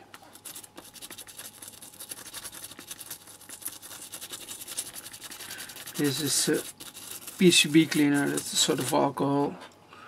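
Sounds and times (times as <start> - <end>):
scrubbing a circuit board: 0.2 - 9.1.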